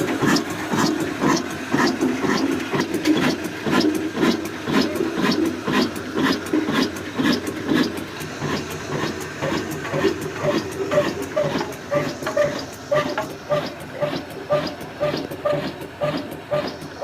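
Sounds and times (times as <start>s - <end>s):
diesel engine thumping: 0.0s - 17.0s.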